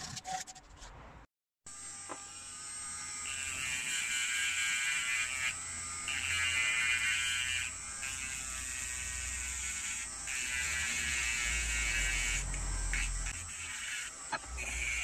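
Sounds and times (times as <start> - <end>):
rotary tool motor whine: 1.7 - 15.0.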